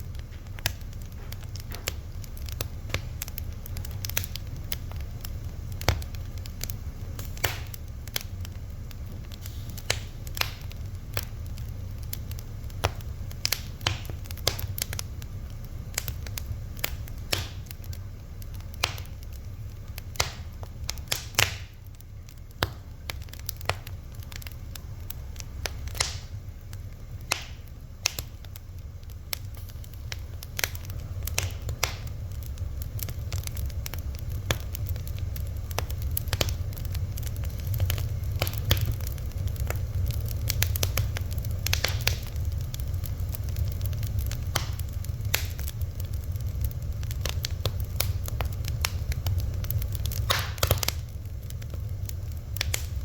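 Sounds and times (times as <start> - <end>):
fire crackling and popping: 0.0 - 53.0
low steady rumble: 0.0 - 53.0.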